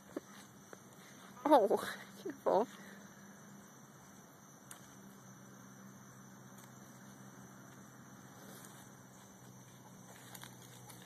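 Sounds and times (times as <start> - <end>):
faint hum and hiss: 0.0 - 11.0.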